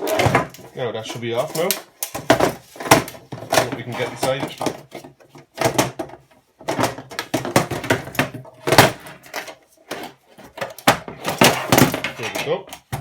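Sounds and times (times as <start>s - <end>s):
metal knocks and scrapes: 0.0s - 13.0s.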